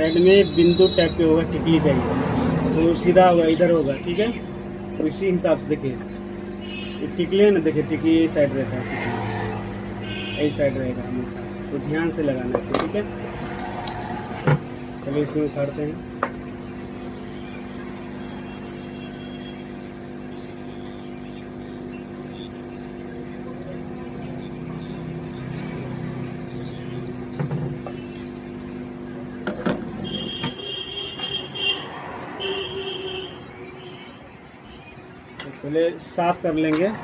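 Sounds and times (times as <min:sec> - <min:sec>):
hot-air station fan blowing: 0:00.0 - 0:33.4.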